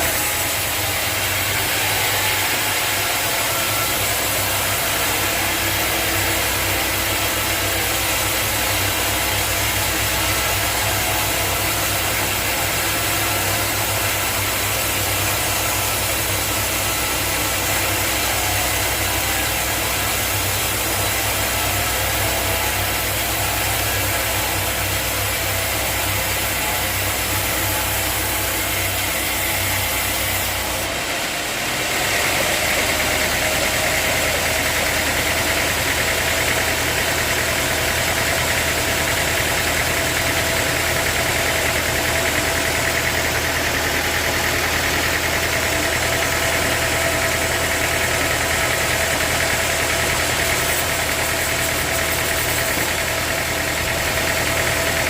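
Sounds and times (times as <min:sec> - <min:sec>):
sawmill saw and motor running: 0:00.0 - 0:55.0.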